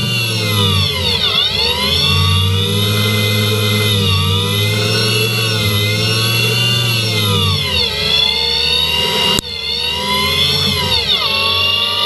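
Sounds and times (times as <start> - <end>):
lathe spindle whining: 0.0 - 12.0.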